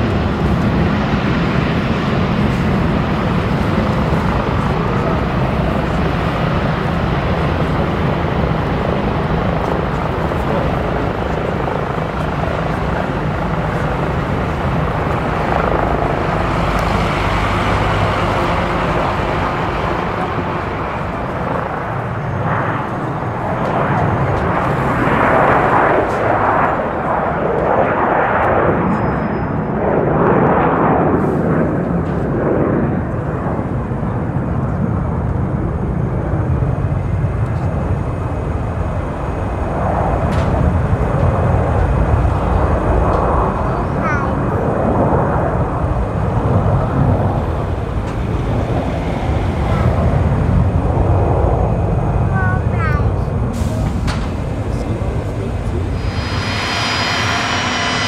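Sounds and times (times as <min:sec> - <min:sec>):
aircraft engine roar: 0:00.0 - 0:58.0.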